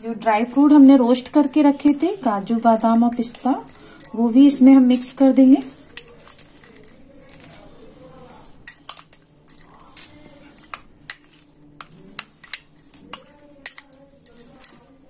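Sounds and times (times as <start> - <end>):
metal spoon clinking on plate: 1.2 - 4.3, 5.0 - 15.0.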